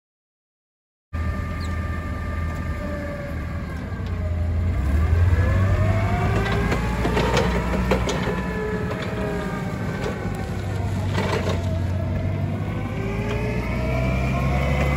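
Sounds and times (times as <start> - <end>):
forklift engine running: 1.2 - 14.9
rising and falling whine: 1.2 - 14.9.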